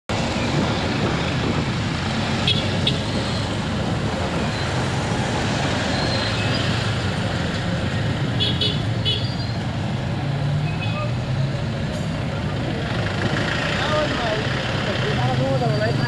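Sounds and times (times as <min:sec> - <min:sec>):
street traffic noise: 0:00.1 - 0:16.0
motorcycle engines humming: 0:00.2 - 0:16.0.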